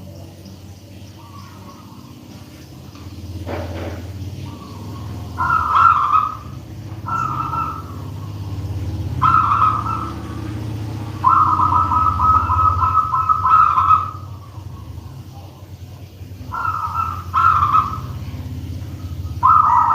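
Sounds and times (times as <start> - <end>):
dove cooing: 1.1 - 19.9.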